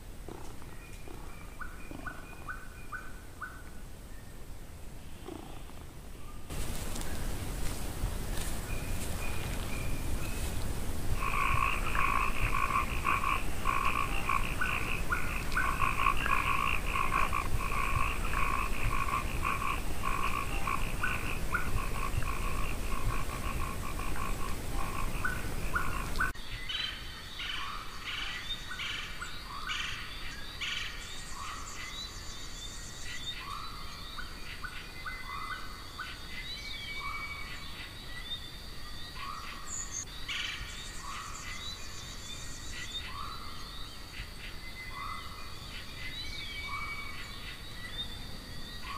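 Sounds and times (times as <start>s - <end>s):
frogs chirping: 0.3s - 3.7s, 5.1s - 5.8s, 11.2s - 48.9s.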